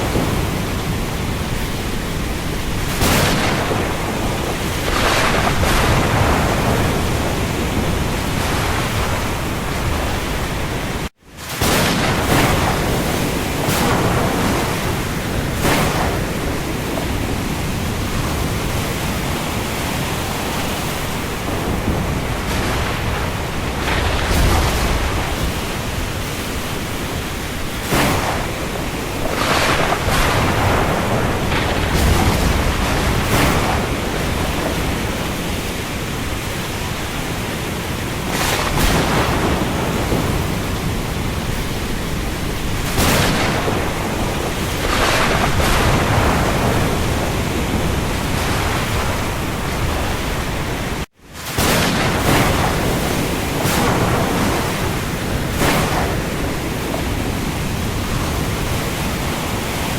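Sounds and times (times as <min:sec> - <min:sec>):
rain over sea: 0:00.0 - 0:59.9
waves splashing: 0:00.0 - 0:59.9.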